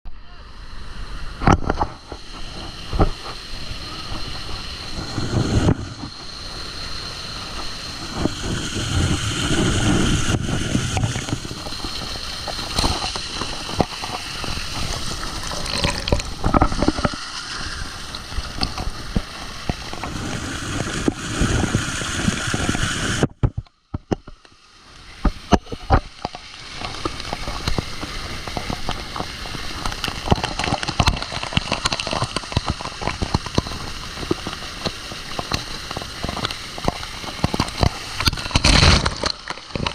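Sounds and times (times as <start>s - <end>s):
water splashing and gurgling: 1.0s - 39.9s.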